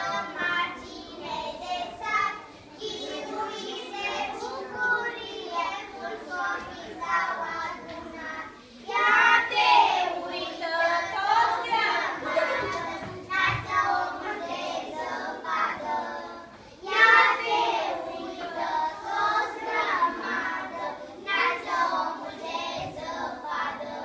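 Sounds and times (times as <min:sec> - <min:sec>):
children singing in unison: 0:00.0 - 0:24.0.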